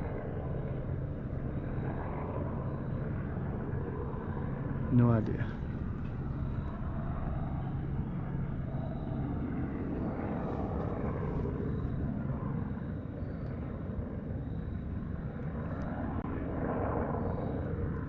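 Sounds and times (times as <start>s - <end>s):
helicopter flying: 0.0s - 18.0s.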